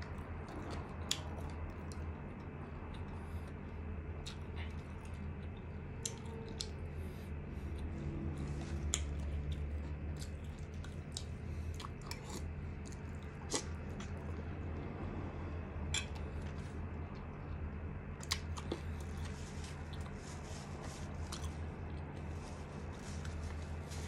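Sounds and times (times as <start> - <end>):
person chewing with wet smacking: 0.0 - 24.0
steady low hum: 0.0 - 24.0.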